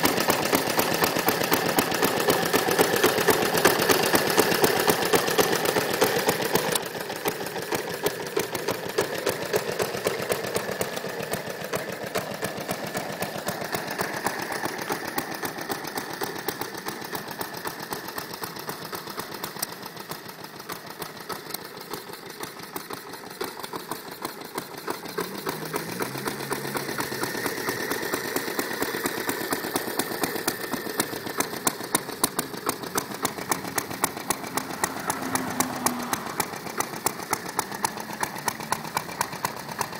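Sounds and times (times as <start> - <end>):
small lawn mower engine running: 0.0 - 39.9.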